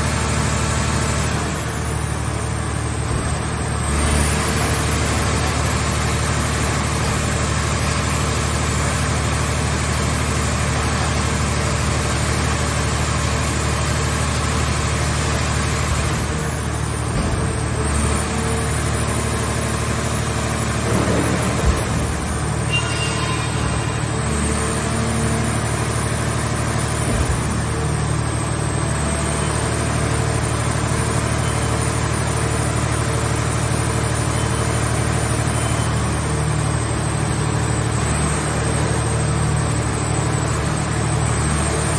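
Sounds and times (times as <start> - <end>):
hydraulic power unit droning: 0.0 - 41.9.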